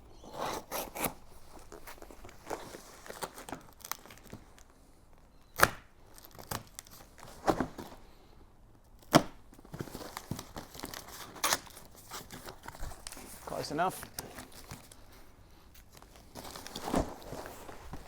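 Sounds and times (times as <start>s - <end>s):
cardboard packaging tearing and rustling: 0.2s - 4.7s, 6.1s - 8.0s, 9.0s - 18.0s.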